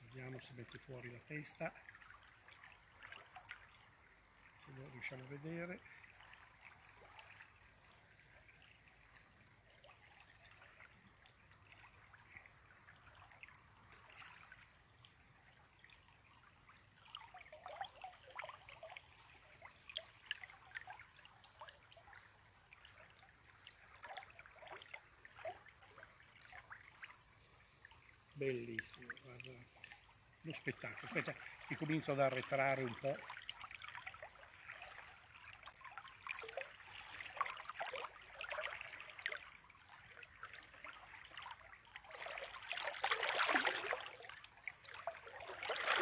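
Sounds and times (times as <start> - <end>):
river trickling and lapping: 0.0 - 46.0
water splashes and clicks: 0.2 - 46.0.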